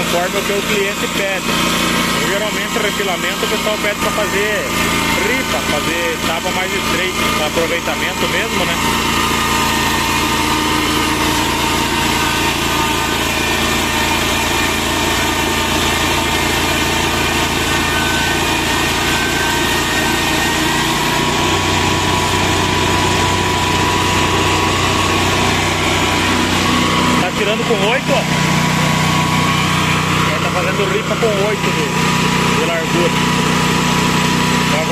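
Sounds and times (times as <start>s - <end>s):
band sawmill humming and whining: 0.0s - 34.9s.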